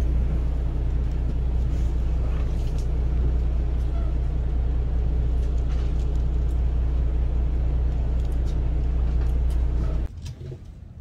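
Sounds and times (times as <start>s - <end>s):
boat engine droning: 0.0s - 10.1s.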